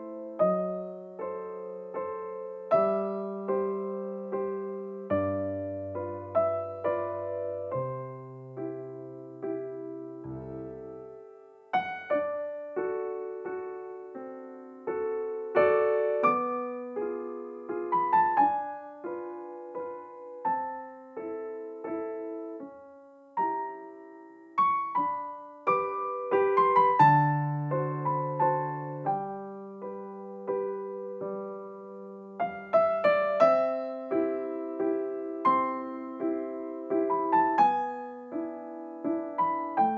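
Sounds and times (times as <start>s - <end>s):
gentle solo piano music: 0.0s - 39.9s.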